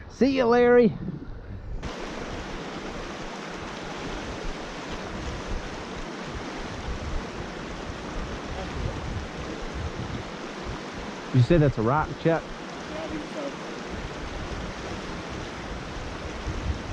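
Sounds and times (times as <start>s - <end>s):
wind rumble on microphone: 0.0s - 12.1s, 13.0s - 16.9s
river current rushing: 1.8s - 16.9s.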